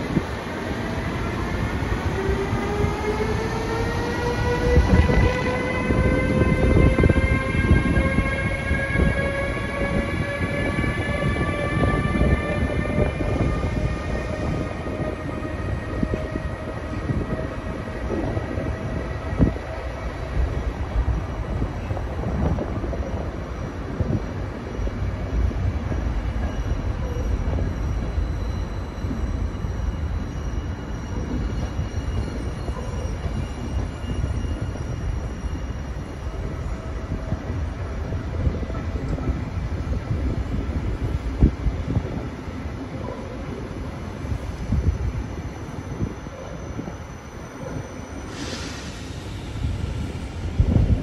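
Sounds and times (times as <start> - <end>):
train wheels rumbling on rails: 0.0 - 51.0
faint high wheel squeal: 8.5 - 51.0.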